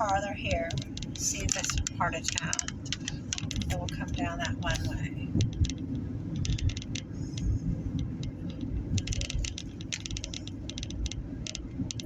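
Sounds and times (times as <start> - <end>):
car road noise rumble: 0.0 - 12.0
rattling clicks: 0.0 - 12.0.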